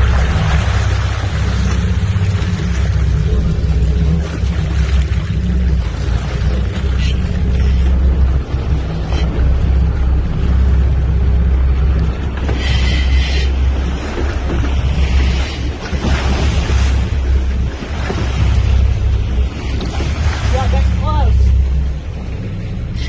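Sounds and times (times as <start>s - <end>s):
boat engines humming: 0.0s - 23.0s
water rushing along hull: 0.0s - 23.0s.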